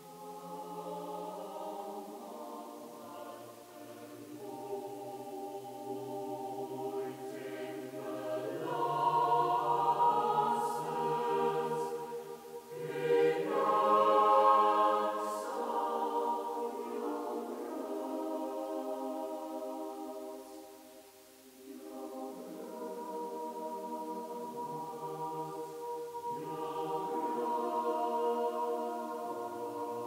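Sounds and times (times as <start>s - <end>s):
choir-like held chords: 0.0s - 30.0s.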